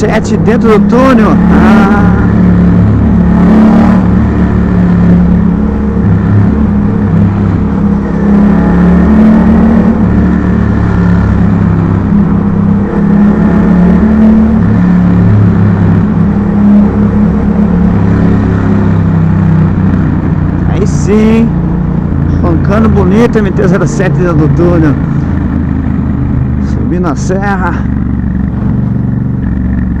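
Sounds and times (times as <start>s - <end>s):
motorcycle engine echoing in tunnel: 0.0s - 30.0s.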